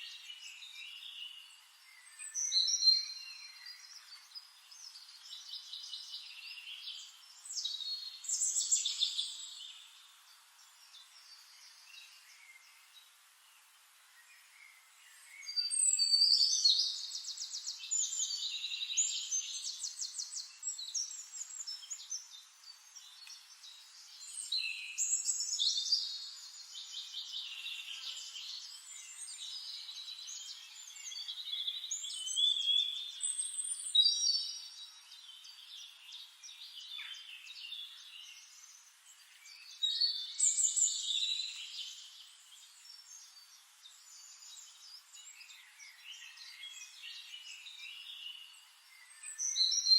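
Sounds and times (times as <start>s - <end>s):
songbird chirps and trills: 0.0s - 49.9s.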